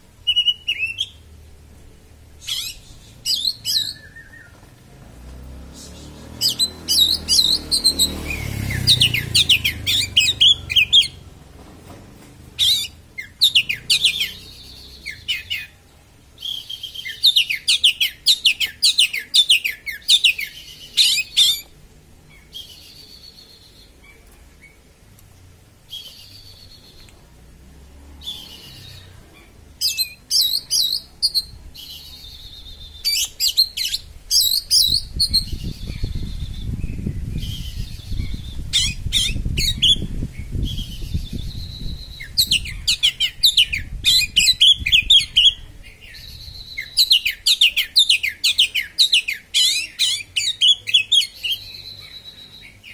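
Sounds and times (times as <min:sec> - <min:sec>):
magpie-robin singing: 0:00.2 - 0:01.3, 0:02.4 - 0:04.8, 0:05.7 - 0:11.4, 0:12.4 - 0:24.9, 0:25.9 - 0:27.1, 0:28.2 - 0:52.9.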